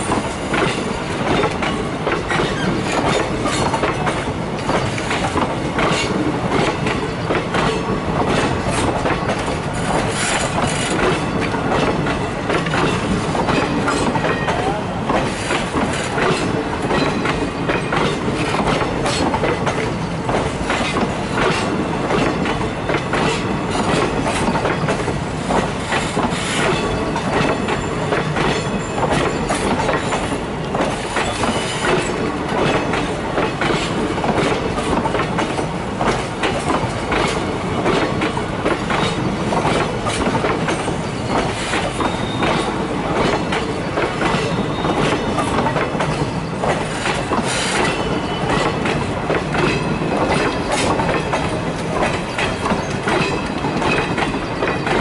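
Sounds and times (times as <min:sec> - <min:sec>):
train rumble: 0:00.0 - 0:55.0
train wheels clattering on rail joints: 0:00.0 - 0:55.0.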